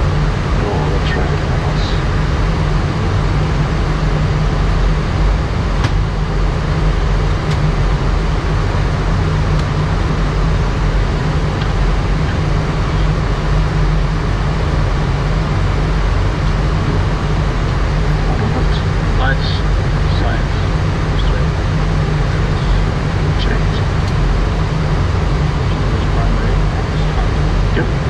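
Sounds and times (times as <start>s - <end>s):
airplane cockpit rumble: 0.0s - 28.0s.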